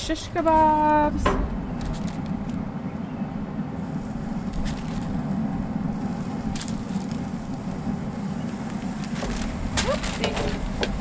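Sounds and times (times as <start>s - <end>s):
grill fan humming: 0.0s - 11.0s.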